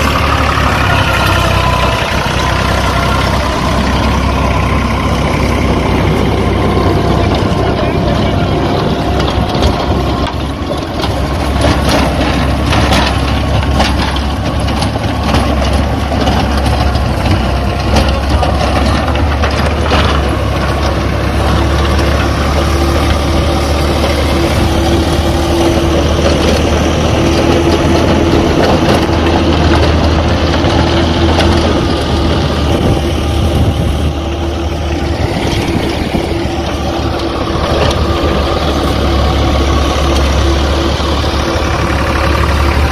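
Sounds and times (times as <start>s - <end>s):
clattering and knocks: 0.0s - 42.9s
tractor engine drone: 0.0s - 42.9s.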